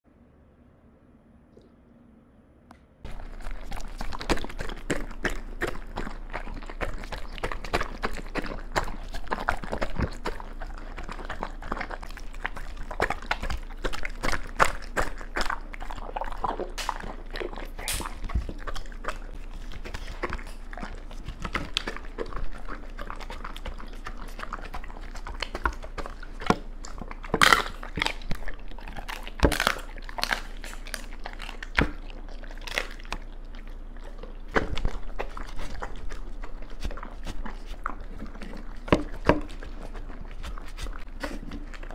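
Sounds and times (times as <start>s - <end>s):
dog chewing and licking: 3.0s - 41.9s.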